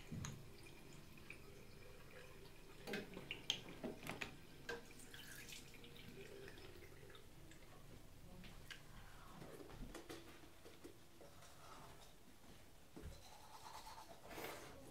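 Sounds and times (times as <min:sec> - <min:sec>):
faint dripping water: 0:00.0 - 0:12.1.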